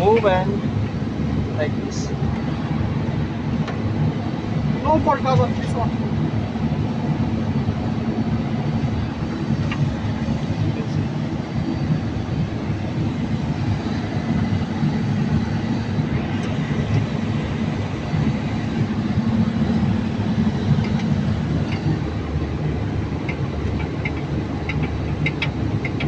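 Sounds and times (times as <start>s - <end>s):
machinery rumbling: 0.0s - 26.0s.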